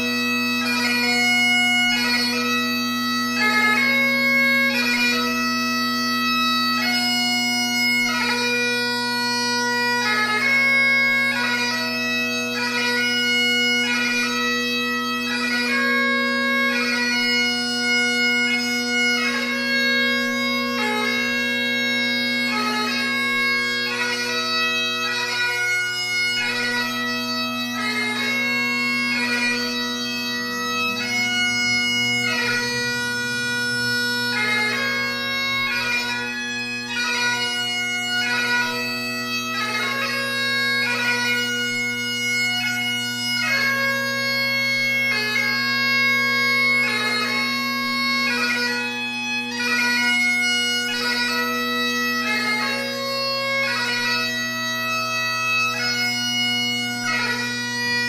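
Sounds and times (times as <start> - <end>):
bagpipe playing melody: 0.0 - 58.0.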